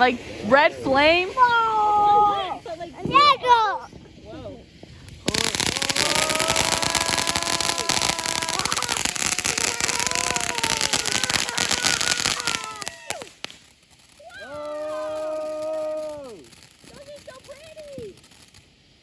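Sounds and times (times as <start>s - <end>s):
firework crackling and whistling: 0.0s - 19.0s.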